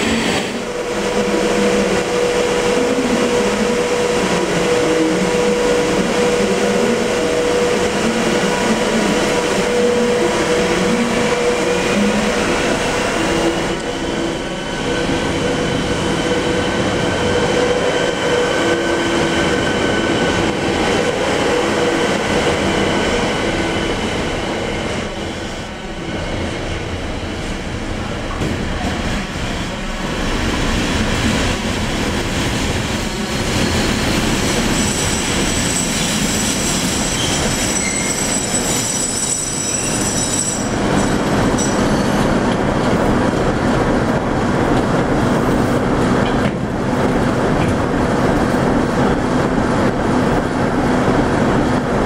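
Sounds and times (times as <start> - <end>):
railway station hum: 0.0 - 52.0.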